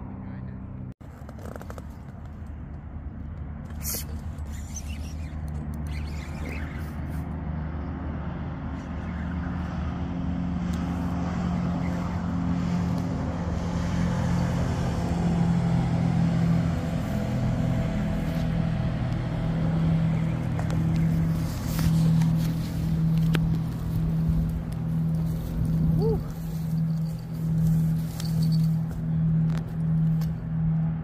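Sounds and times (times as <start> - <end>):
motorboat engine droning: 0.0 - 31.0.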